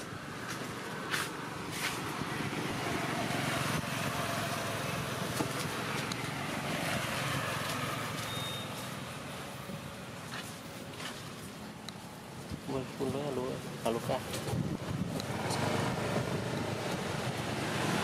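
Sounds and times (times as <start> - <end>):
motor vehicle passing: 0.0 - 11.1, 14.4 - 18.0.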